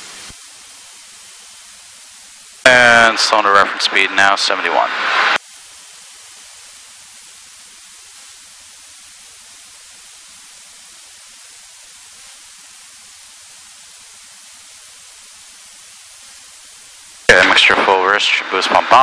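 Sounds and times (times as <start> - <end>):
electronic hiss: 0.0 - 19.0.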